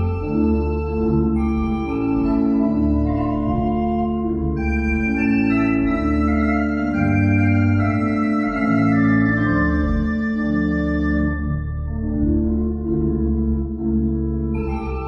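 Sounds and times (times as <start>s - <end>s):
pipe organ chords: 0.0s - 15.0s.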